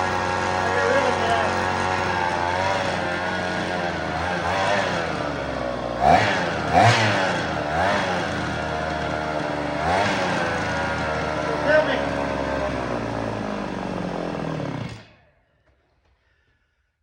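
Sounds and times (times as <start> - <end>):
chainsaw engine revving: 0.0 - 16.5.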